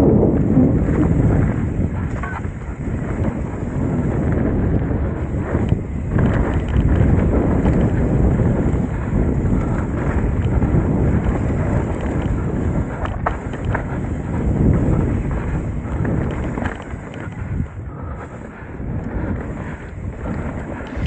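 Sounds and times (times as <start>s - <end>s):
bike tyres rumbling on dirt: 0.0s - 21.0s
wind buffeting microphone: 0.0s - 21.0s
sharp clicks from bike: 0.3s - 21.0s.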